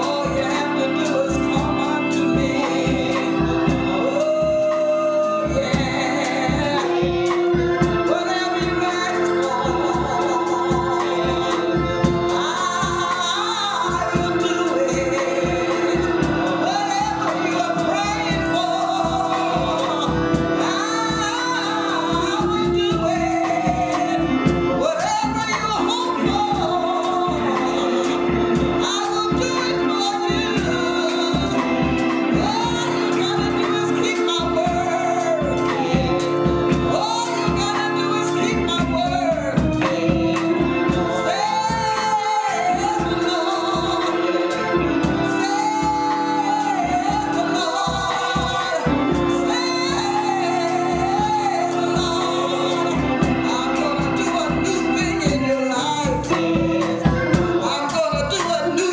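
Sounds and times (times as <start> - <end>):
band with steady beat: 0.0 - 58.9
people singing gospel music: 0.0 - 58.9.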